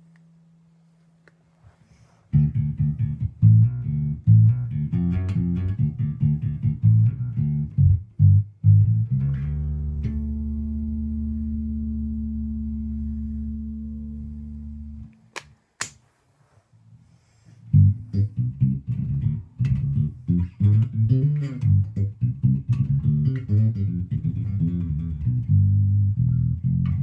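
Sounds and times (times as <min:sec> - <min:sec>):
low plucked string riff: 0:02.3 - 0:15.2, 0:17.7 - 0:27.0.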